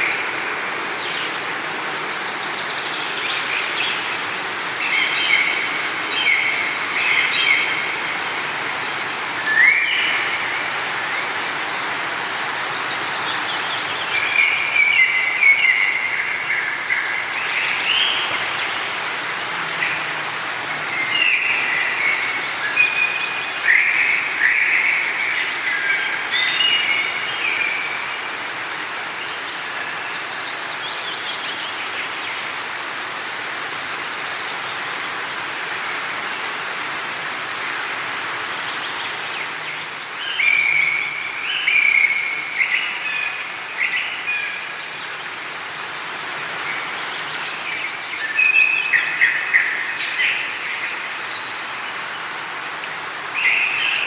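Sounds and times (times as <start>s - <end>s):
running water rushing: 0.0s - 54.0s
songbirds chirping: 0.0s - 54.0s.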